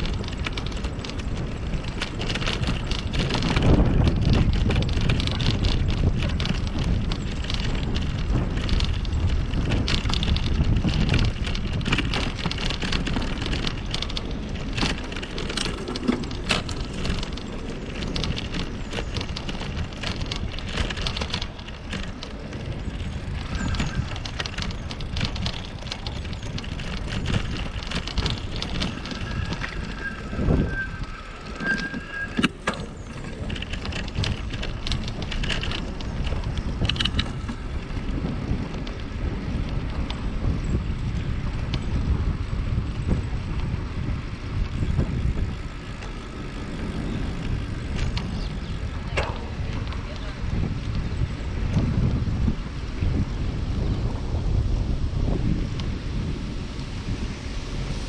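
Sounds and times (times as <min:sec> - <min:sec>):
bicycle rattling and clicking: 0:00.0 - 0:58.0
tyres and air rumbling: 0:00.0 - 0:58.0.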